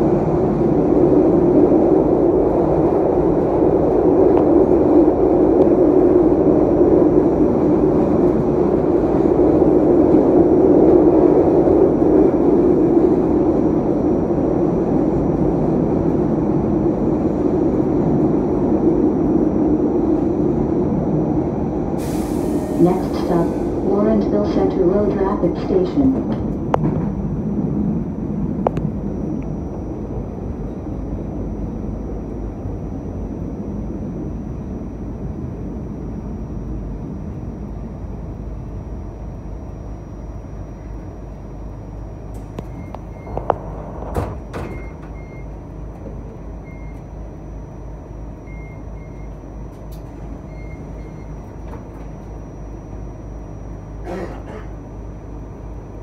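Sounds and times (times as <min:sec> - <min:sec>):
high electrical whine: 0:00.0 - 0:56.0
light rail car rumbling: 0:00.0 - 0:56.0.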